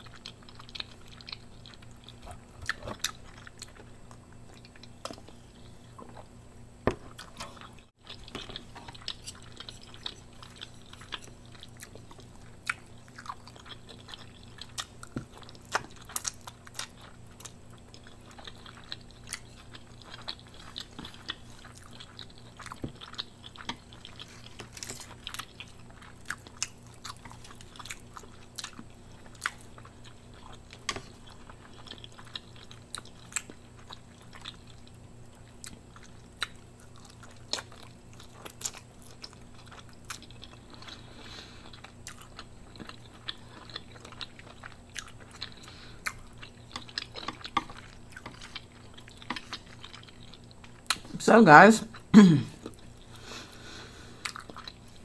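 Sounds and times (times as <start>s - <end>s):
person chewing noodles: 0.0s - 6.4s, 7.1s - 51.1s, 51.9s - 55.0s
faint steady hum: 0.0s - 55.0s.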